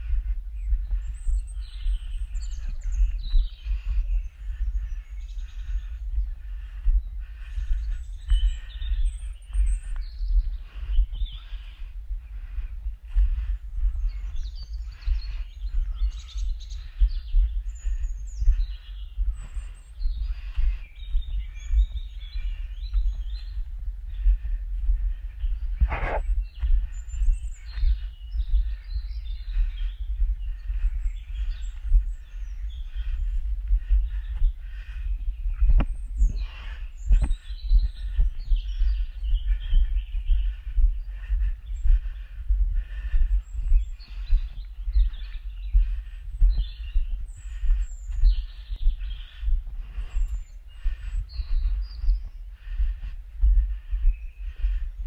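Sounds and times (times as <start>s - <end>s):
small songbirds chirping: 0.0s - 55.0s
wind buffeting microphone: 0.0s - 55.0s.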